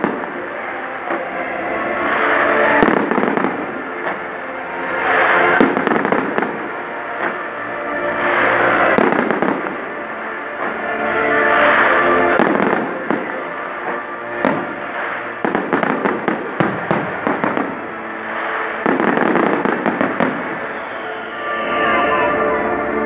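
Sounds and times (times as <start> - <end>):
fireworks bangs and crackles: 0.0 - 21.2
music playing: 0.0 - 23.0.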